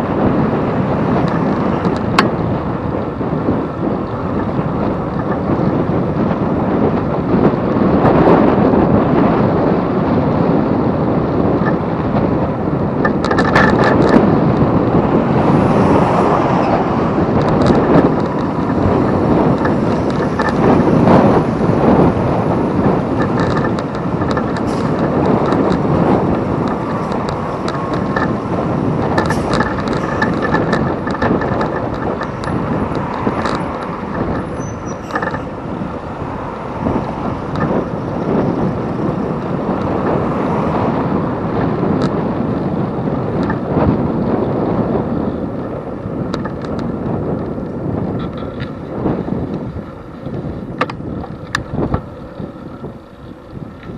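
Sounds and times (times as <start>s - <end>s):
bike clicks and rattles: 0.0s - 53.9s
wind buffeting microphone: 0.0s - 53.9s.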